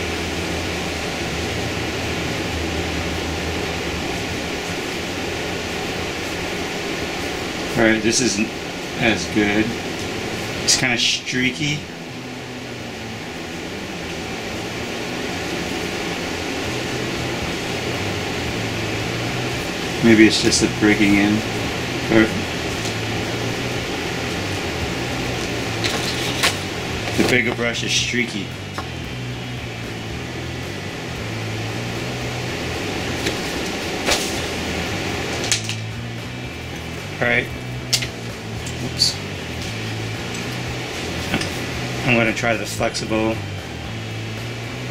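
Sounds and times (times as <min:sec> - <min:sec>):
rushing background noise: 0:00.0 - 0:44.9
steady low hum: 0:00.0 - 0:44.9.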